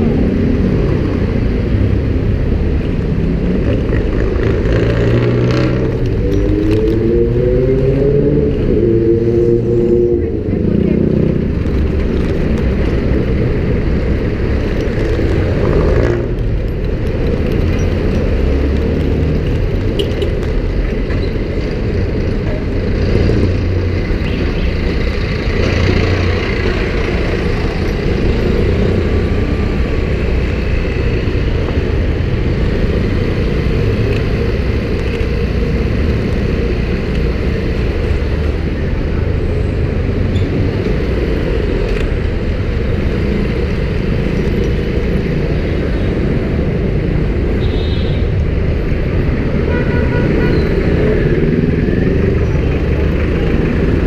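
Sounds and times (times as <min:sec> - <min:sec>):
cars and motorcycles running: 0:00.0 - 0:54.0.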